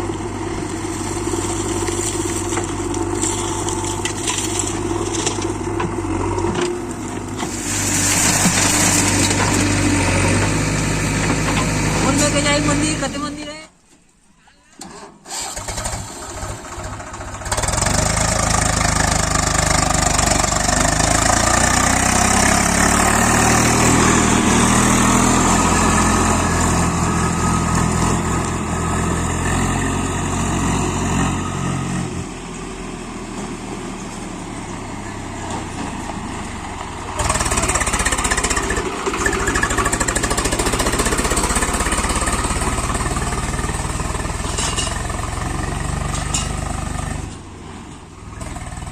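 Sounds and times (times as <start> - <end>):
backhoe diesel engine revving: 0.0 - 13.5, 14.9 - 48.9.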